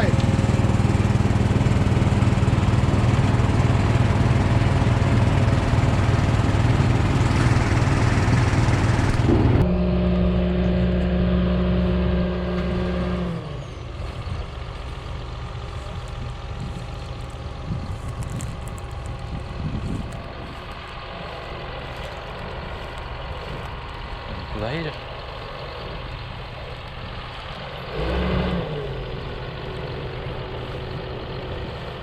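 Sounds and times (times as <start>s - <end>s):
farm machinery engine running: 0.0s - 32.0s.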